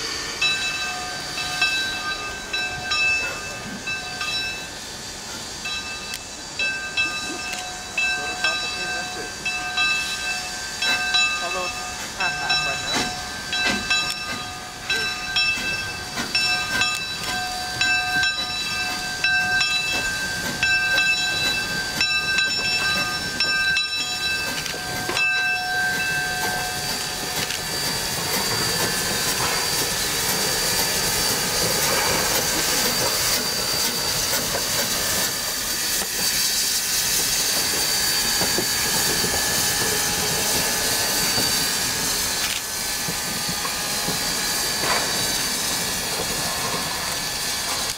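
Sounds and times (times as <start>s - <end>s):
locomotive bell ringing: 0.0s - 47.9s
steam hiss: 0.0s - 47.9s.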